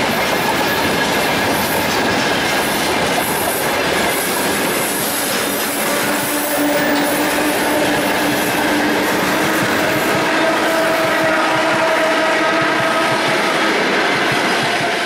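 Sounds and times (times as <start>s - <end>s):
freight train wagons rumbling: 0.0s - 15.0s
train wheel squeal: 0.0s - 15.0s.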